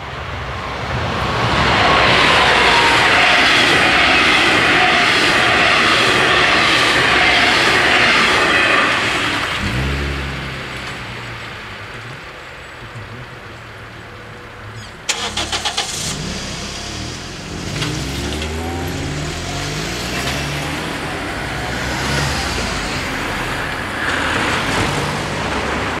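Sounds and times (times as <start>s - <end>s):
cars accelerating past: 0.3s - 26.0s.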